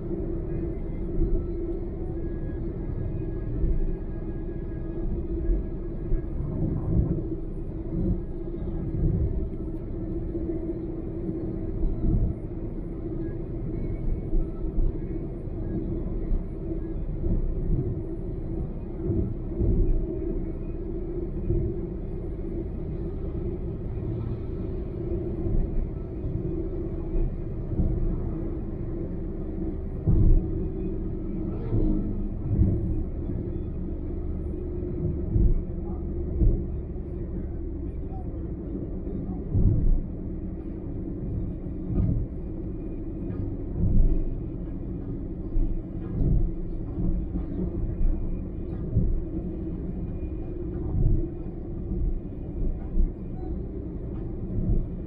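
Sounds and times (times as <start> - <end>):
car road and engine rumble: 0.0 - 55.0
constant low drone: 0.0 - 55.0.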